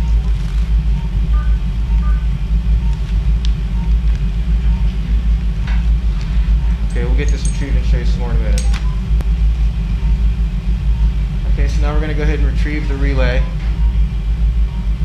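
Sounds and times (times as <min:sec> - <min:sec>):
low equipment rumble: 0:00.0 - 0:15.0.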